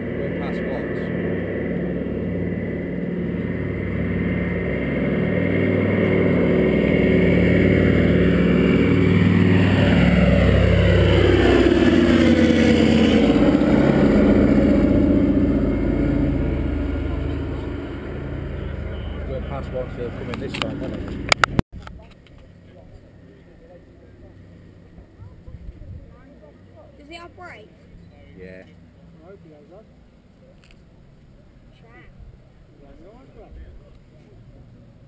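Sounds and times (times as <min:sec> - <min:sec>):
propeller plane engines droning: 0:00.0 - 0:35.0.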